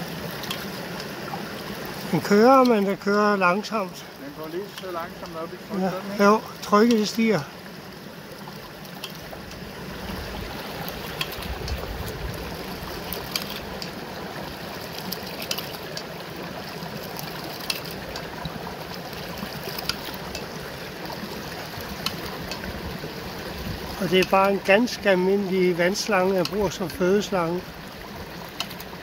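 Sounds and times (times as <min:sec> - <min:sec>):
rushing stream: 0:00.0 - 0:29.0
water spilling from valve: 0:00.0 - 0:29.0.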